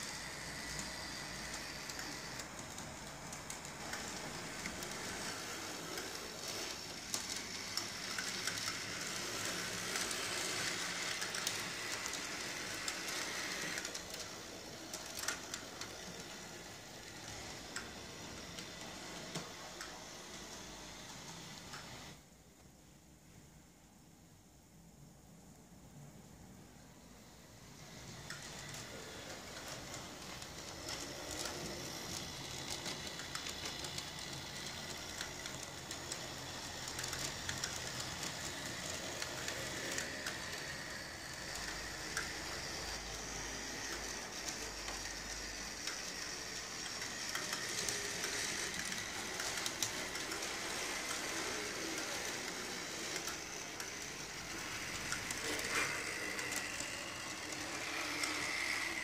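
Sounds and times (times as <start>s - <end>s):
small electric motors whirring: 0.0s - 22.2s, 27.6s - 59.0s
wheels clicking on rails: 0.0s - 22.2s, 27.6s - 59.0s.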